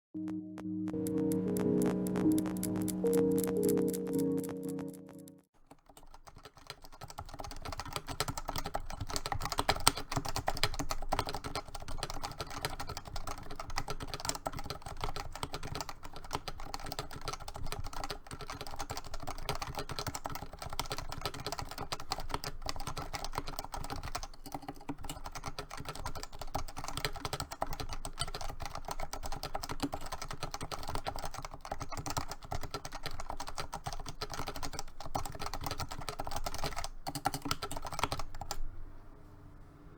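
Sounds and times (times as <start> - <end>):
fast typing on keyboard: 1.1 - 38.7.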